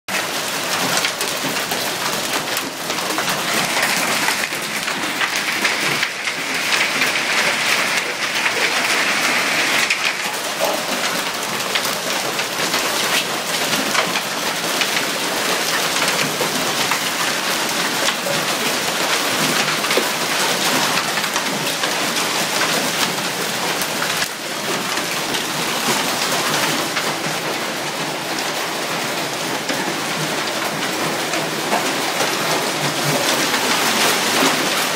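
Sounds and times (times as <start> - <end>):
hail pelting down: 0.1 - 34.9
heavy rain: 0.1 - 34.9.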